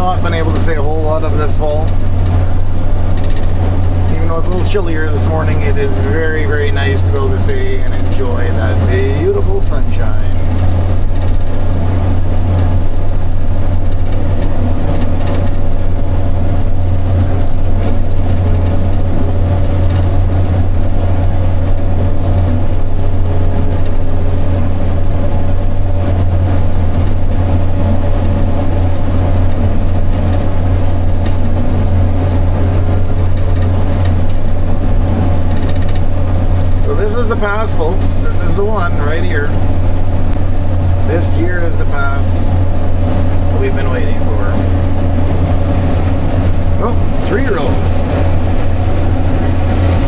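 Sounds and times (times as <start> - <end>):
combine harvester engine hum: 0.0 - 50.0
machine running noise: 0.0 - 50.0.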